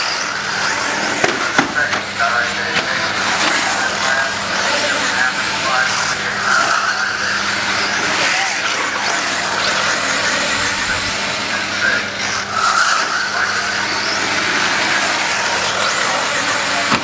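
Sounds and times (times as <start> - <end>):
rc car motors passing: 0.0 - 17.0.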